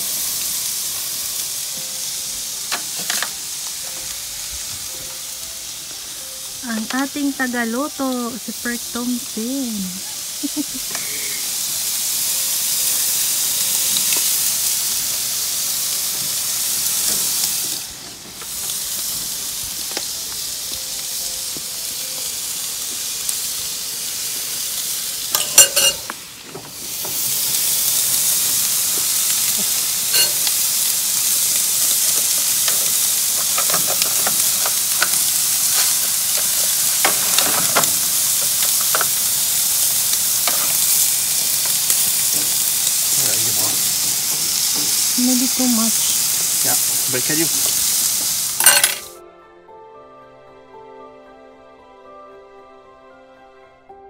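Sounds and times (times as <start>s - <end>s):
patties sizzling on grill: 0.0s - 49.2s.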